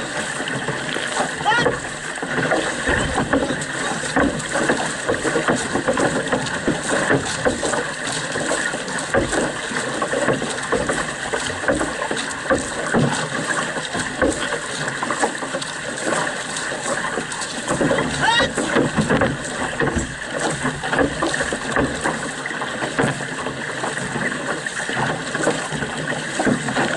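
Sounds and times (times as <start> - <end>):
paddles splashing: 0.0 - 26.9
water rushing along canoe hull: 0.0 - 26.9.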